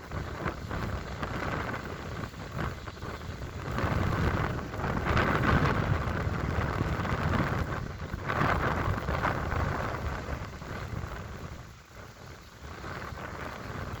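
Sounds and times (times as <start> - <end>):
waves breaking on stony shore: 0.0 - 14.0
wind: 0.0 - 14.0.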